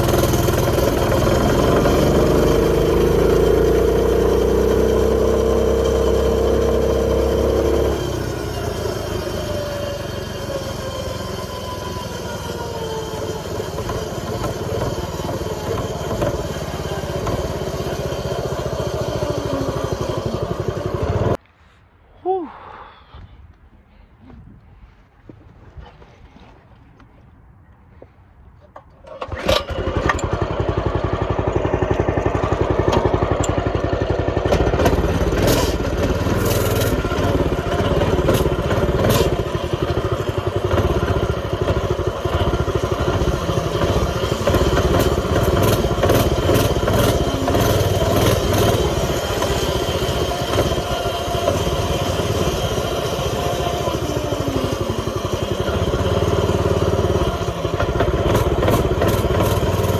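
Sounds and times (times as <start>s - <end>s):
small two-stroke engine revving: 0.0s - 21.4s, 29.1s - 59.9s.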